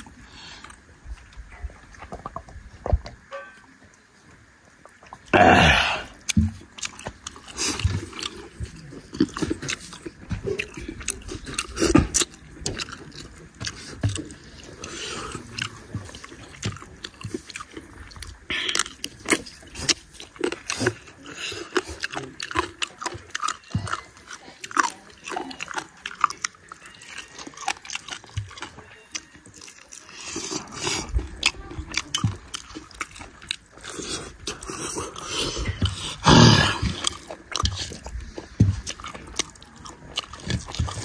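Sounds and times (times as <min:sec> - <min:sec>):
person chewing and smacking: 0:00.0 - 0:04.0, 0:04.6 - 0:41.0.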